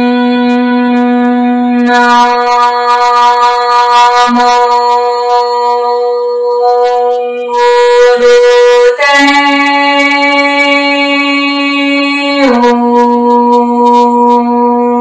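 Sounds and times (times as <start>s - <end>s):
reed wind instrument held notes: 0.0s - 15.0s.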